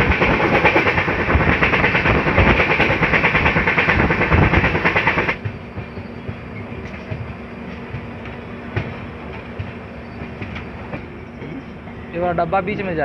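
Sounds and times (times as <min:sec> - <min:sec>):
train wheels clattering: 0:00.0 - 0:12.3
train running noise: 0:00.0 - 0:13.0.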